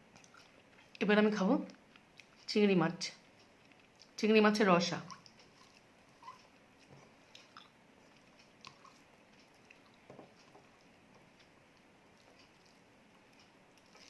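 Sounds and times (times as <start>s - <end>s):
person chewing and smacking: 0.0s - 1.0s, 1.7s - 2.5s, 3.2s - 4.2s, 5.0s - 14.0s.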